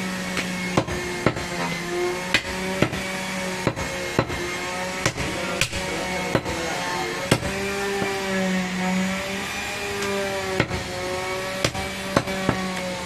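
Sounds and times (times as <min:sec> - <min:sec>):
machine hum: 0:00.0 - 0:13.0
cleaver chopping meat and bone: 0:00.2 - 0:08.4, 0:09.8 - 0:13.0.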